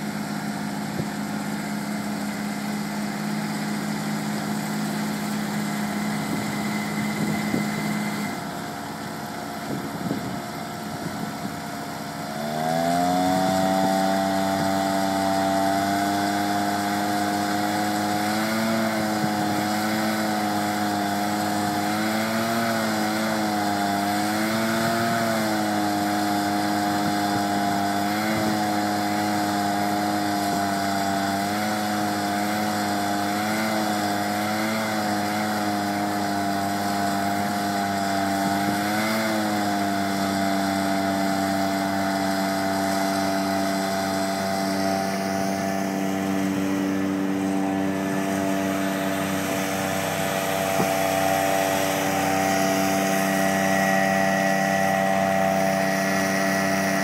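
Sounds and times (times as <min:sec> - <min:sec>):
engine-driven vacuum running: 0:00.0 - 0:57.0.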